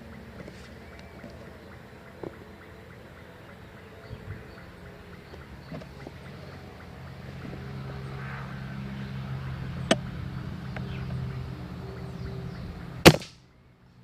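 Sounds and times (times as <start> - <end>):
distant vehicle engine drone: 0.0 - 14.0.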